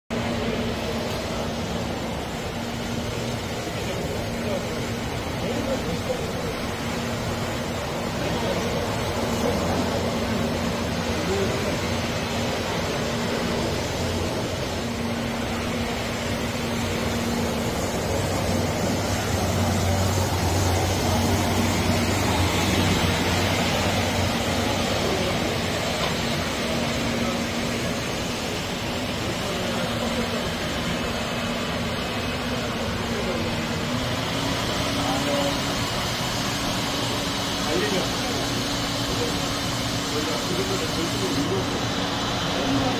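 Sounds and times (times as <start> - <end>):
floor scrubber motors humming: 0.1 - 42.9.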